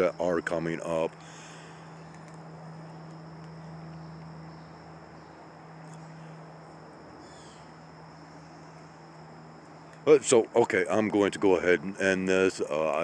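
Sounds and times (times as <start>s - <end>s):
insects trilling: 0.0s - 13.0s
low even hum: 0.0s - 13.0s.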